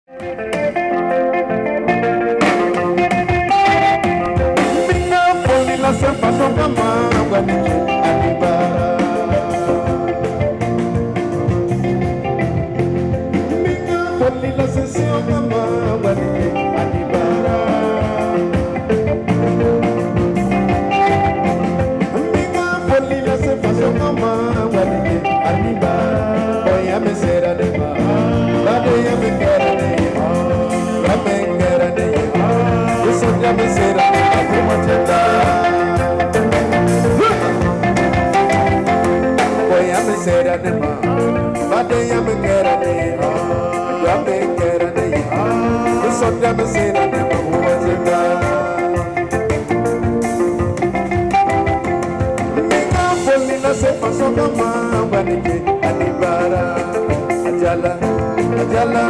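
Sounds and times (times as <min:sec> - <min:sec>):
electric guitar: 0:00.0 - 0:59.0
keyboard: 0:00.1 - 0:59.0
man singing into microphone: 0:02.1 - 0:11.2, 0:13.2 - 0:49.8, 0:52.2 - 0:59.0.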